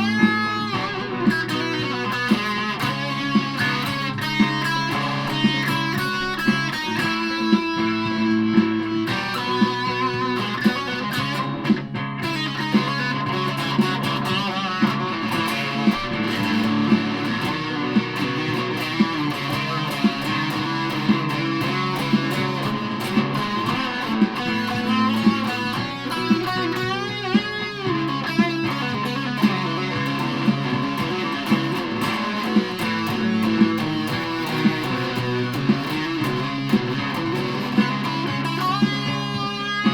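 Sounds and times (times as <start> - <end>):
fuzz electric guitar: 0.0 - 39.9
steady beat: 0.0 - 39.9.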